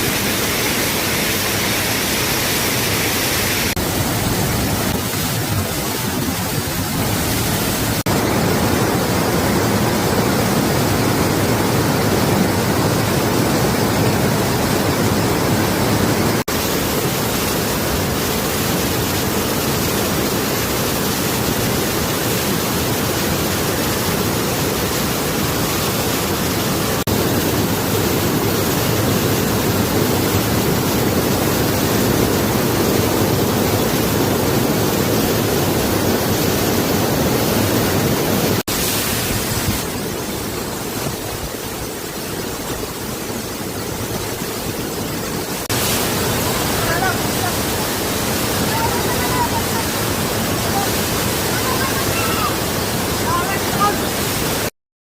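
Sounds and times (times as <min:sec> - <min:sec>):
waterfall rushing: 0:00.0 - 0:54.7.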